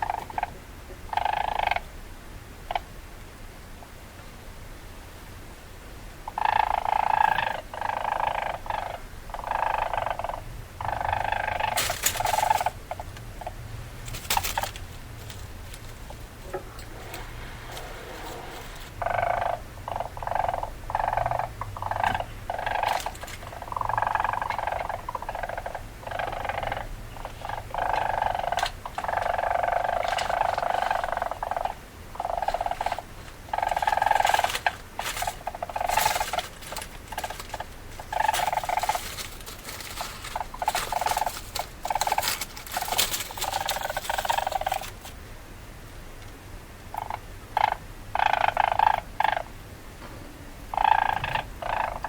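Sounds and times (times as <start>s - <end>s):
weasel chattering: 6.3s - 45.1s, 46.9s - 49.5s, 50.4s - 52.0s.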